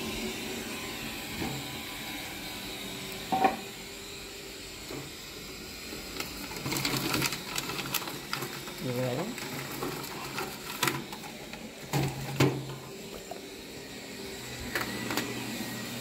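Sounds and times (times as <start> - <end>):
robot vacuum running on carpet: 0.0 - 16.0.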